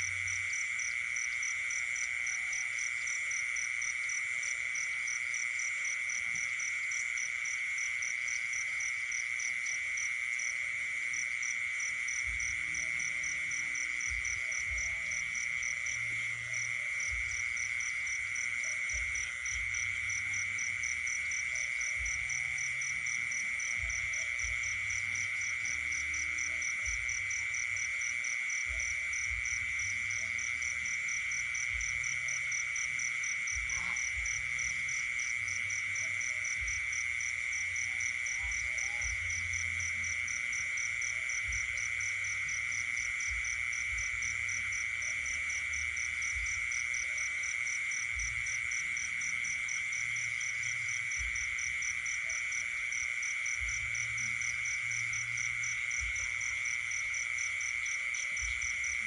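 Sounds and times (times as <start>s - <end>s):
frogs calling: 0.0s - 59.0s
high-pitched insect trill: 0.0s - 59.0s.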